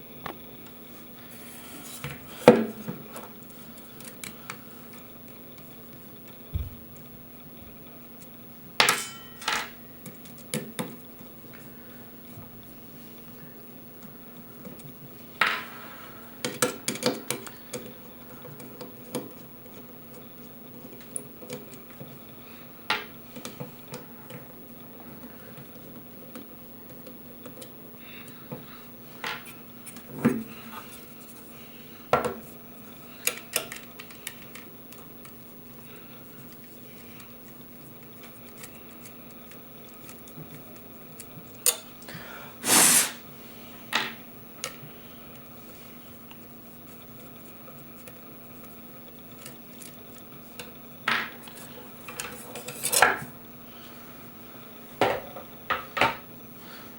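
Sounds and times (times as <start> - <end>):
low electrical hum: 0.0 - 56.9.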